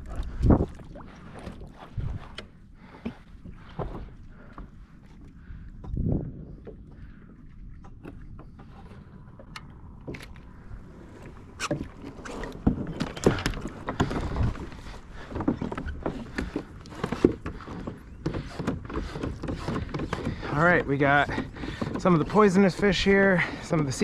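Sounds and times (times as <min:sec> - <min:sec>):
knocks and clatter on kayak: 0:00.0 - 0:10.4, 0:11.5 - 0:24.0
water noise: 0:00.0 - 0:24.0.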